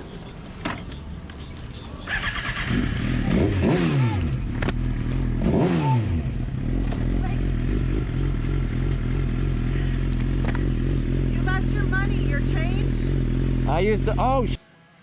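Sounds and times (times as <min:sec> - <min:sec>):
motorcycle engine revving: 0:02.0 - 0:14.6.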